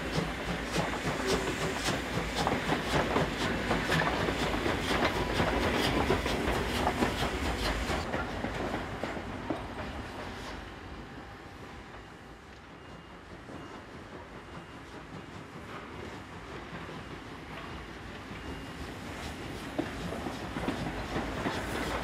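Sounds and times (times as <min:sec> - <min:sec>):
steam locomotive wheels clattering: 0:00.0 - 0:22.0.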